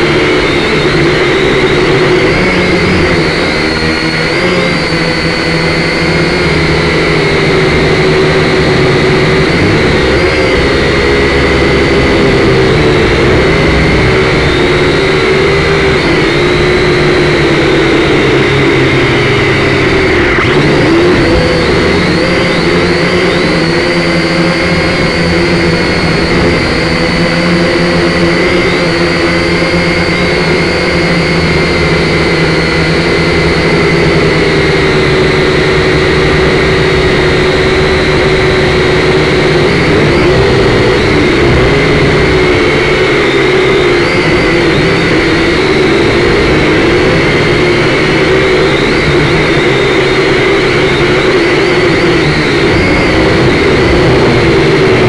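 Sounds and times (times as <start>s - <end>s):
quadcopter propellers whining: 0.0s - 55.0s.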